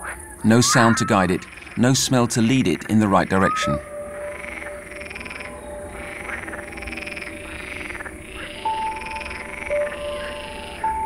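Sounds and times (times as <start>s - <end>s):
frogs croaking: 0.0s - 11.0s
soft background music: 0.0s - 11.0s.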